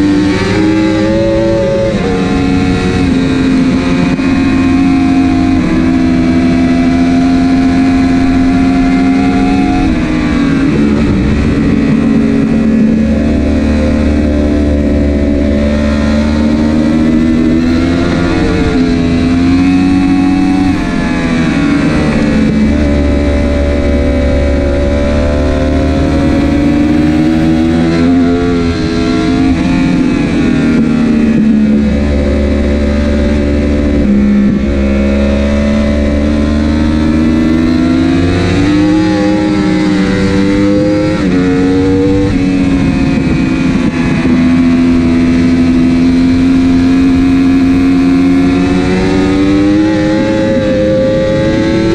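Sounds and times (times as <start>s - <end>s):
superbike engine revving: 0.0s - 51.9s.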